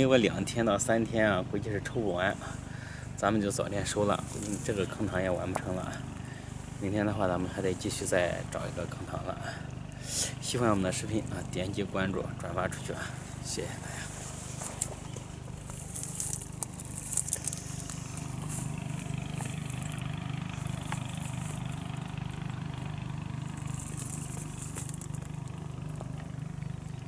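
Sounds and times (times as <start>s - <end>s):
small engine humming: 0.0s - 27.0s
crackling rustle: 2.0s - 27.0s.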